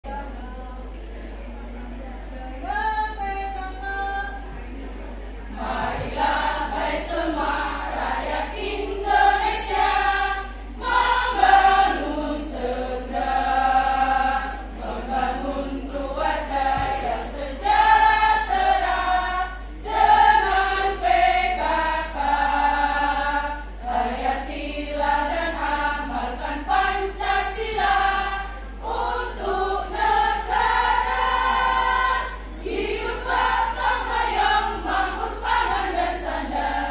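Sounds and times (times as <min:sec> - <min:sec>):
women's choir singing in harmony: 0:05.1 - 0:36.9.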